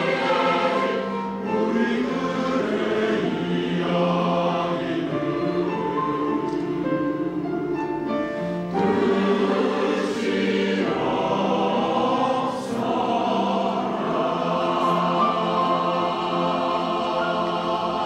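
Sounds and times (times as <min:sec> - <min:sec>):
women's choir singing: 0:00.0 - 0:18.0.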